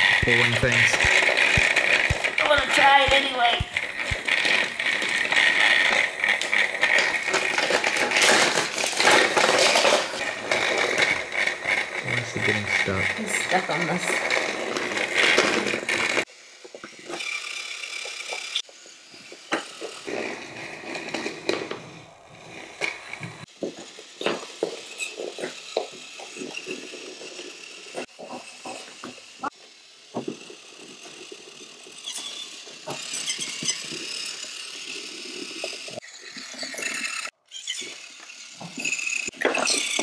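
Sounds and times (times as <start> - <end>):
clicks and knocks of wheels: 0.0 - 40.0
toy train engines whirring: 0.0 - 40.0.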